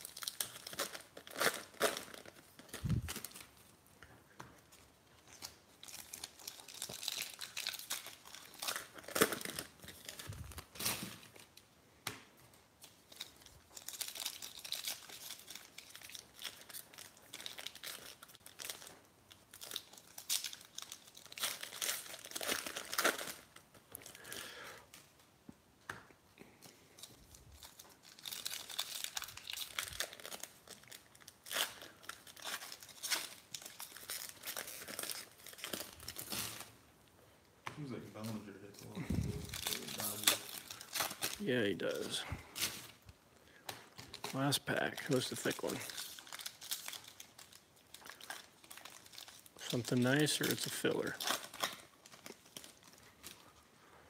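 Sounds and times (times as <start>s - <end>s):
foil wrappers tearing and crinkling: 0.0s - 3.7s, 5.2s - 11.6s, 12.8s - 25.0s, 26.6s - 36.8s, 38.2s - 43.0s, 43.6s - 54.0s.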